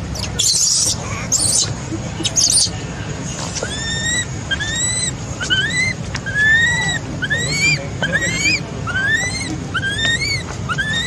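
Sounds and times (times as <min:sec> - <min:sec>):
baby monkey crying: 0:00.1 - 0:02.8, 0:03.6 - 0:11.0.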